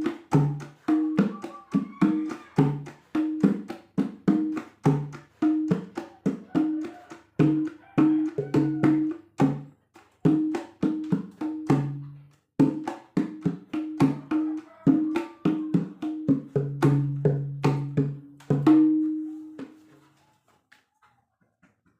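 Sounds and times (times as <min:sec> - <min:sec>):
hand drum rhythm: 0:00.0 - 0:20.0.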